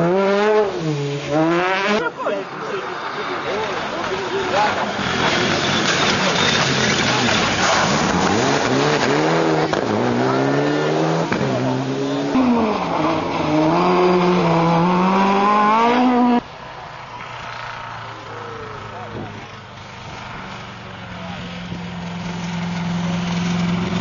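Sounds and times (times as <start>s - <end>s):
rally car engines revving hard: 0.0s - 24.0s.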